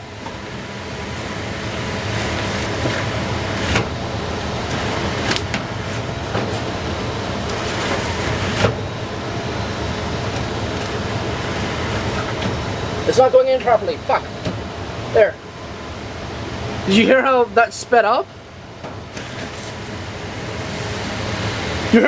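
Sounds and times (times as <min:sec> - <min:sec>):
furnace blower fan running: 0:00.0 - 0:22.0.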